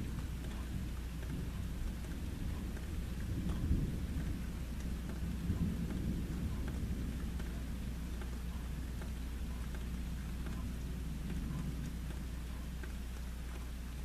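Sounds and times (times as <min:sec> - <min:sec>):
light rain: 0:00.0 - 0:14.0
thunder rumbling: 0:00.0 - 0:14.0.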